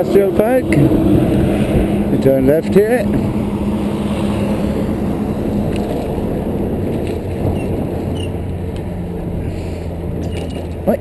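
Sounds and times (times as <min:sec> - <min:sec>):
wind rush and road noise: 0:00.0 - 0:11.0.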